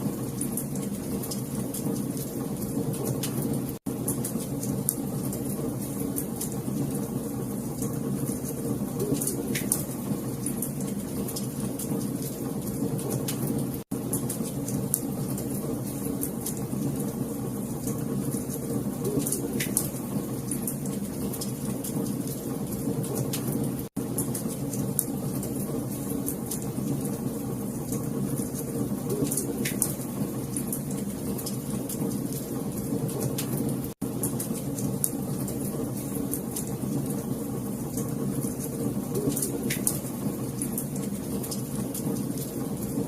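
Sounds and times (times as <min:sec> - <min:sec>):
low fire rumble: 0:00.0 - 0:43.0
wood fire crackling and popping: 0:00.1 - 0:43.0.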